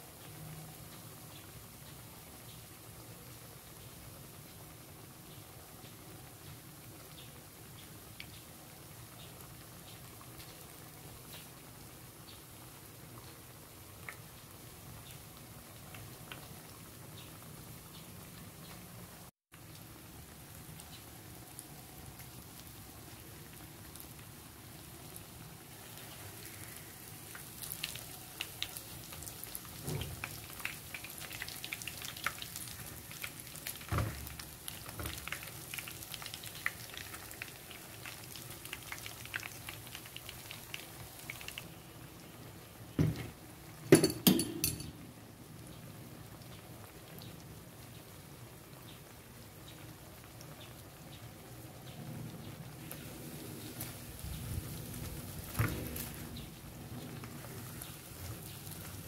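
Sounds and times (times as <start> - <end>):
food deep-frying in oil: 0.0 - 59.0.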